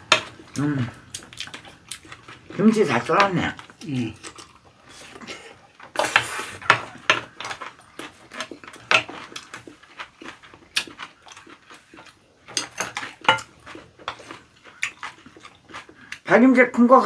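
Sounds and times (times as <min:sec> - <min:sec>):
chewing and smacking: 0:00.0 - 0:16.3.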